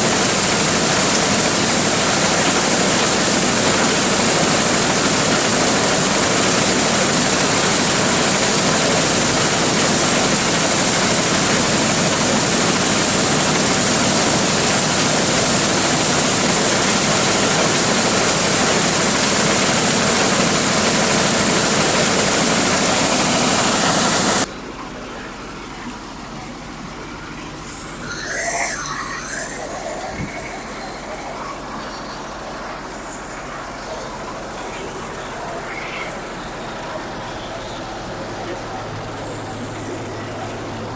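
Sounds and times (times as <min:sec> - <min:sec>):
corn sheller running: 0:00.0 - 0:28.3, 0:29.1 - 0:40.9.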